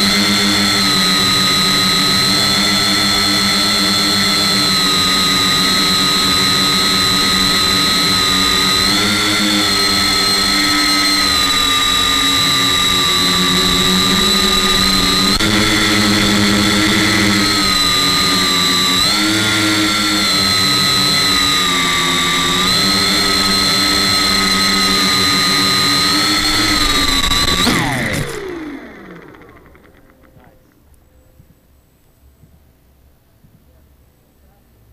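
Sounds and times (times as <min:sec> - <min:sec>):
drone motors whining: 0:00.0 - 0:31.1.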